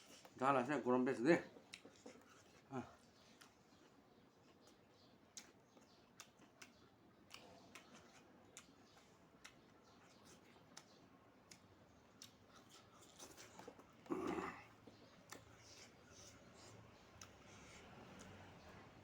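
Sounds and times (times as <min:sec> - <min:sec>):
person chewing: 0:01.6 - 0:18.5.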